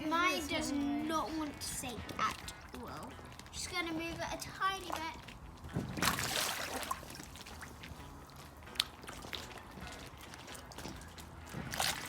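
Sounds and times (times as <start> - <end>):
water dripping and splashing: 0.0 - 12.0.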